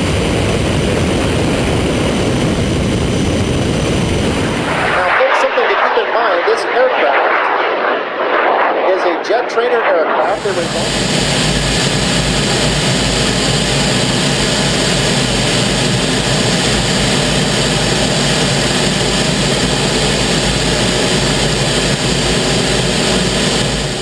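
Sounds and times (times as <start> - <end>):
jet engine running loud: 0.0 - 24.0.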